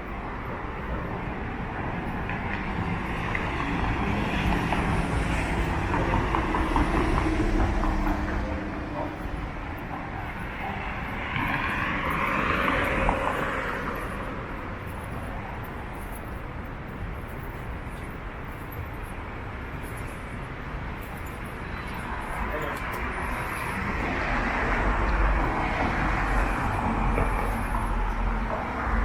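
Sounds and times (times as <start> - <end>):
city street traffic: 0.0 - 29.0.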